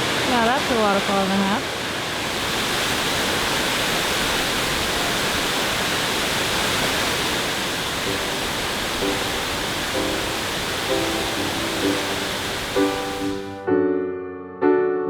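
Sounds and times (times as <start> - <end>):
waterfall rushing: 0.0 - 13.7.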